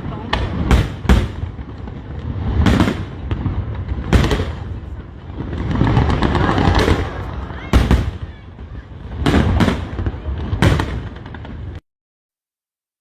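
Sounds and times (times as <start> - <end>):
fireworks booming: 0.0 - 11.8
fireworks crackling pops: 0.0 - 11.8.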